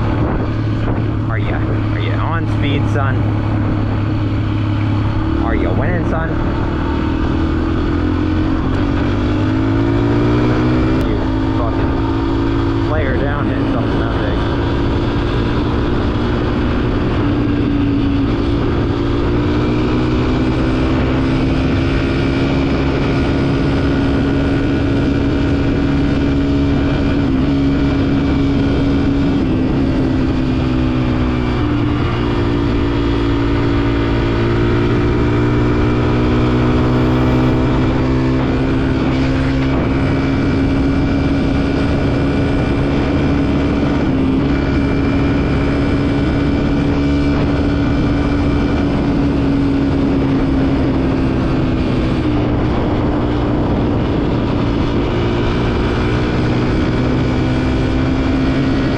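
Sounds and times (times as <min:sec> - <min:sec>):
dirt bike engine cruising: 0:00.0 - 0:58.9.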